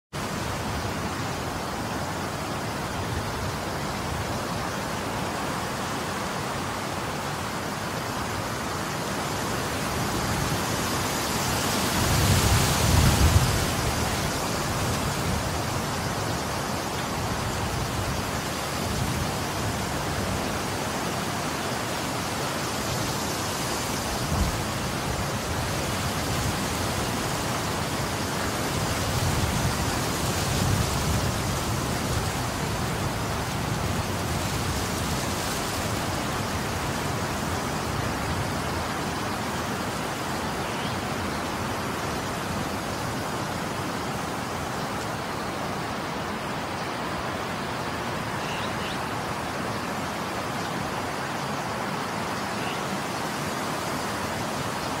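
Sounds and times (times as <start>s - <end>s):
strong wind blowing: 0.2s - 48.4s.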